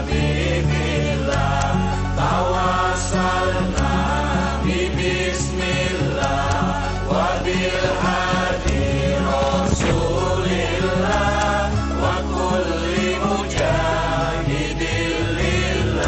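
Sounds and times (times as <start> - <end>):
low sustained bass: 0.0 - 16.0
voices chanting together: 0.0 - 16.0.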